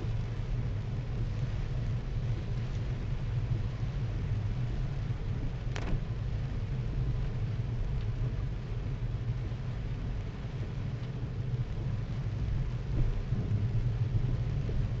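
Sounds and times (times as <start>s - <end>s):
engine and tyre rumble: 0.0s - 15.0s
rain hissing: 0.0s - 15.0s.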